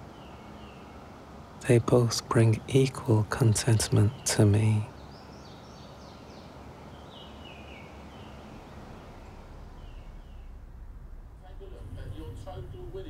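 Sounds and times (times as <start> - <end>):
bird chirping: 0.0 - 13.0
quiet background ambience: 0.0 - 13.0.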